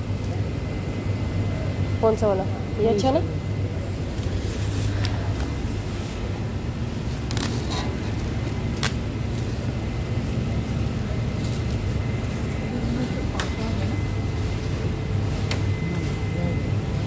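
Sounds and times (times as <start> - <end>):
supermarket background hum: 0.0 - 17.0.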